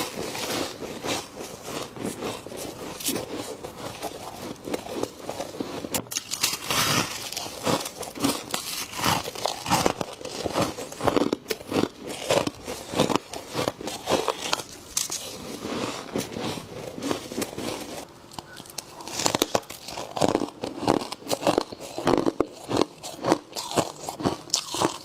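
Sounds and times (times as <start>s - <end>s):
frost crunching when chewed: 0.0s - 25.0s.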